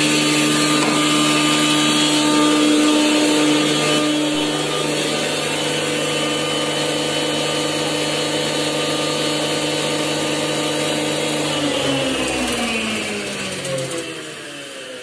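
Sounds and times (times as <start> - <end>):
grinding machine running: 0.0 - 15.0.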